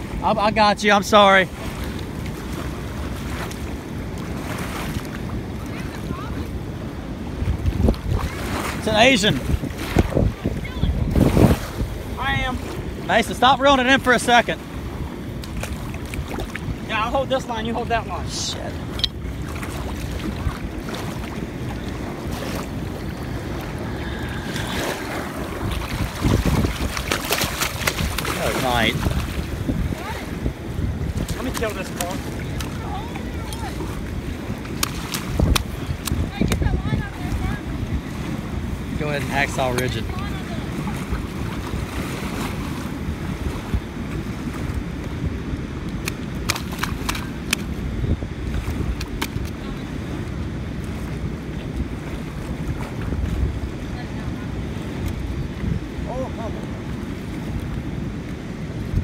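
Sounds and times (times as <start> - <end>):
low wind rumble: 0.0 - 59.0
shallow water rushing and lapping: 0.0 - 59.0.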